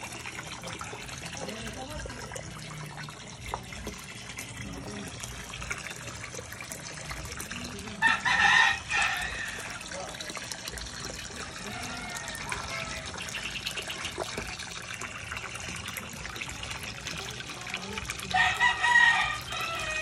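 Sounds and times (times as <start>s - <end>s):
water splashing into pond: 0.0s - 20.0s.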